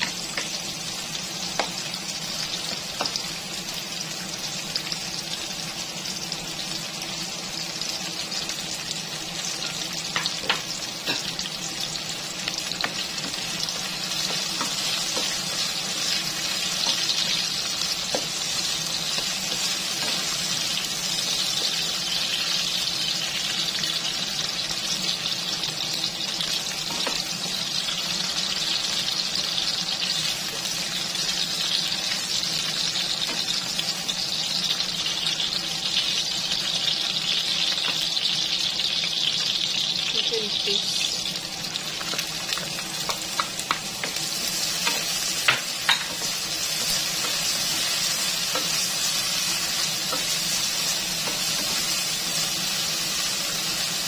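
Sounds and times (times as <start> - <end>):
peppers sizzling in hot oil: 0.0 - 54.0.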